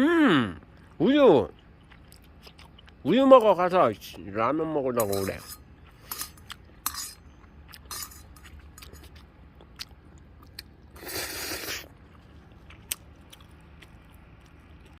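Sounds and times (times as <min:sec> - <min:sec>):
chewing and lip-smacking: 0:00.6 - 0:04.2, 0:05.6 - 0:15.0.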